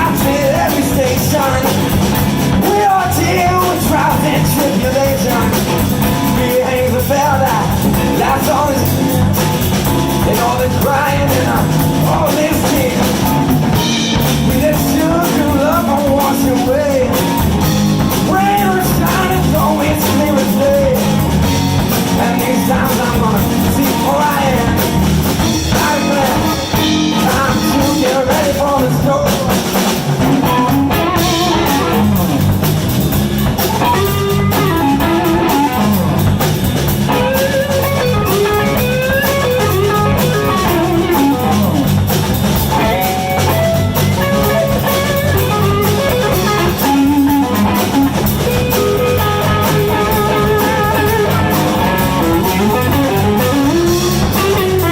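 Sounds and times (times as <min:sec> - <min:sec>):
bass guitar: 0:00.0 - 0:54.9
blues guitar lead: 0:00.0 - 0:54.9
drum kit: 0:00.0 - 0:54.9.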